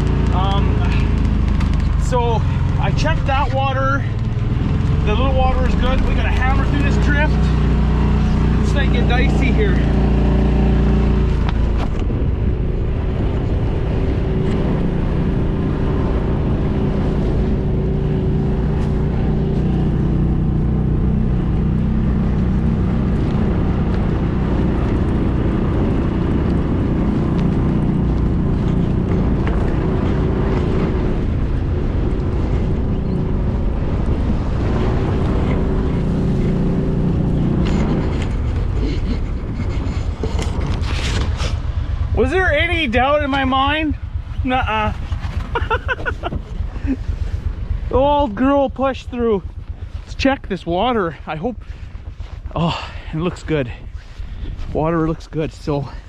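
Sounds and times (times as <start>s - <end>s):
utility vehicle engine under load: 0.0s - 55.6s.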